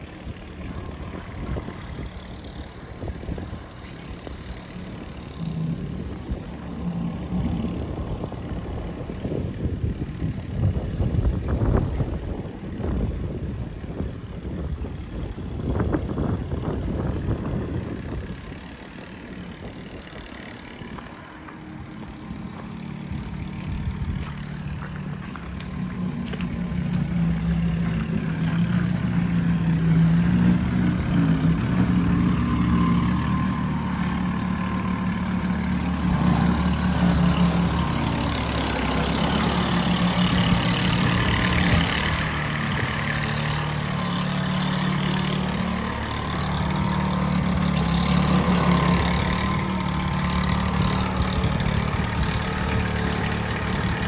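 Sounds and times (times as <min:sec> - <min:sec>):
large vehicle engine humming: 0:00.0 - 0:54.0.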